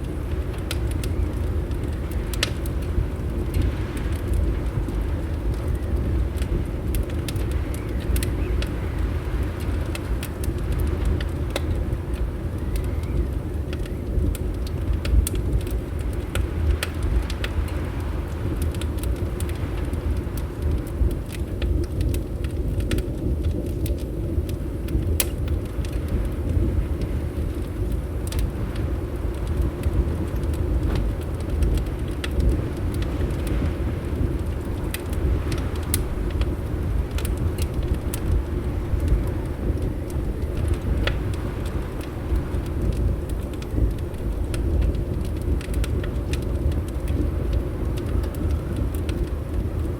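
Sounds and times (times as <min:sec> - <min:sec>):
fireplace crackling: 0:00.0 - 0:49.9.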